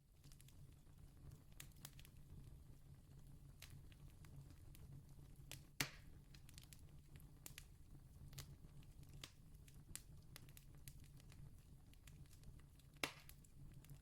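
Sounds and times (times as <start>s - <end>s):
distant campfire crackling: 0.0s - 14.0s.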